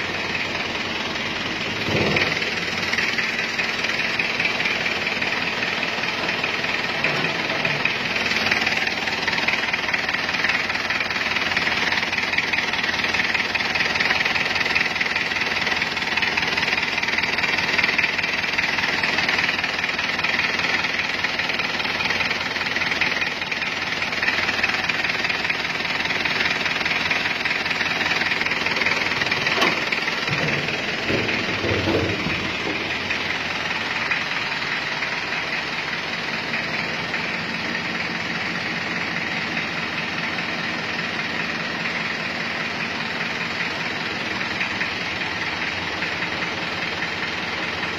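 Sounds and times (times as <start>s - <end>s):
diesel engine idling: 0.0s - 47.9s.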